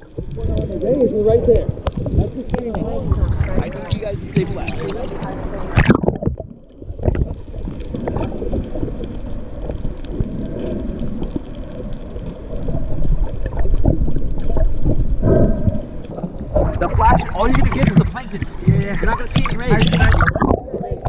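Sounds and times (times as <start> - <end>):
underwater crackling clicks: 0.0 - 21.0.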